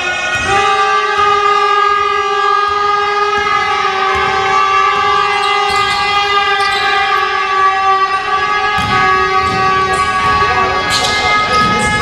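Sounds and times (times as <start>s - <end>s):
long steady horn tone: 0.0s - 12.0s.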